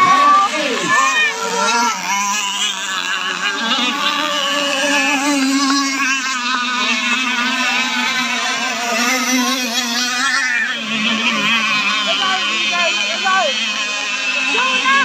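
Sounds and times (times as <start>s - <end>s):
rc powerboat motors whining: 0.0s - 15.0s.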